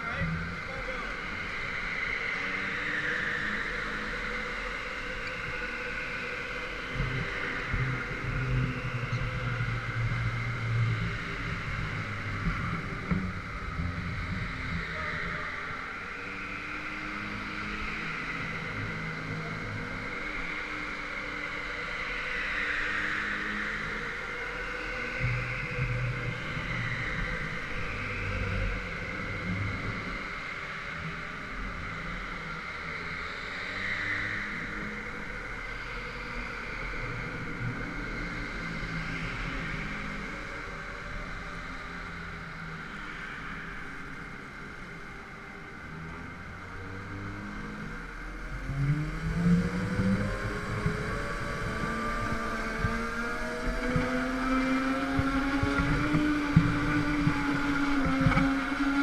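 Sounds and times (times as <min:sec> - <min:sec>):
go-kart motor accelerating: 0:00.0 - 0:59.0.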